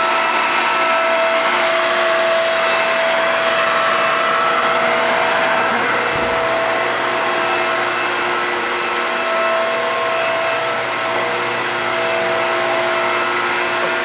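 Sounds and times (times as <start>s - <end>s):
machine whine tones: 0.0s - 14.0s.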